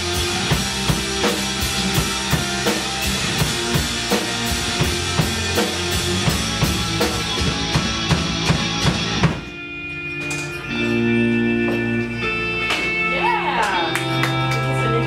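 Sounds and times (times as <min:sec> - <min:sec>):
drum kit playing rock beat: 0:00.0 - 0:15.0
recorded rock song with guitar: 0:00.0 - 0:15.0.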